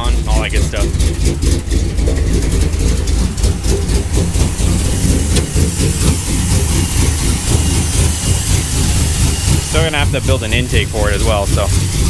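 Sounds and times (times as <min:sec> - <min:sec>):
truck engine idling with choppy lope: 0:00.0 - 0:12.0.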